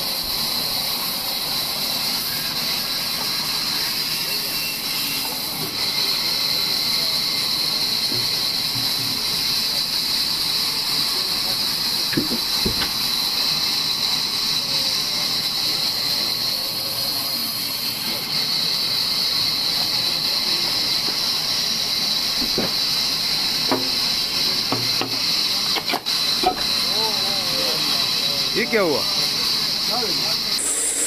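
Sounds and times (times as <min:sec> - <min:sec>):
bandsaw hissing: 0:00.0 - 0:31.0.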